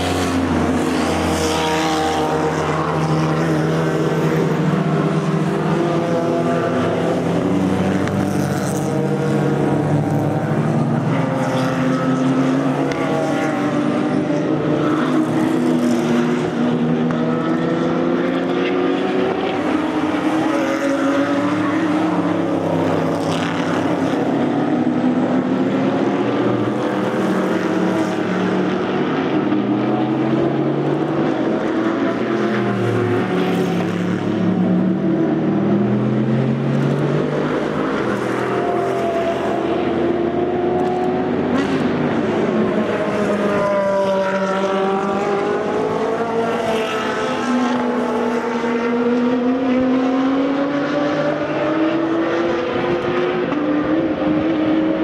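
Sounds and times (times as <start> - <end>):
race cars passing: 0.0 - 55.0.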